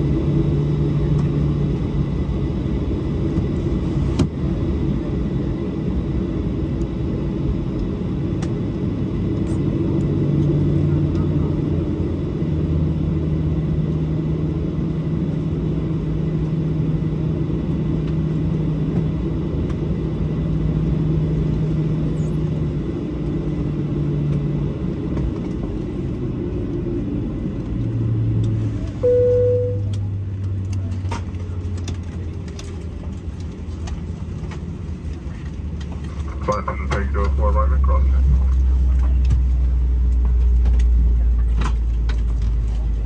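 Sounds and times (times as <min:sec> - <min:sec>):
aircraft engine hum: 0:00.0 - 0:43.0.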